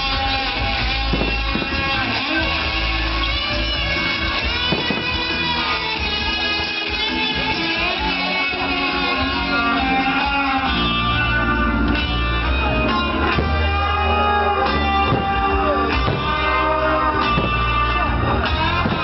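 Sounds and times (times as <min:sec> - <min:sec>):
guitar music: 0:00.0 - 0:19.0
steady bass line: 0:00.0 - 0:19.0.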